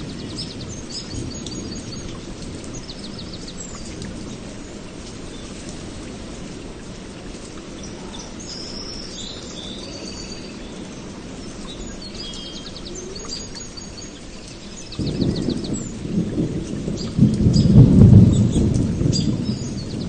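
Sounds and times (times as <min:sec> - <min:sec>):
small birds chirping: 0:00.0 - 0:05.8, 0:06.5 - 0:20.0
rain rushing: 0:00.0 - 0:20.0.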